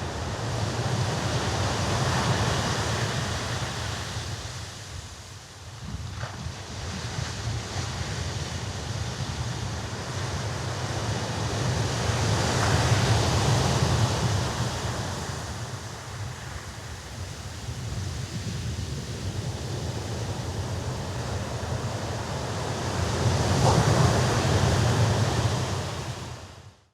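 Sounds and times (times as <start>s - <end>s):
sea waves washing ashore: 0.0s - 26.8s.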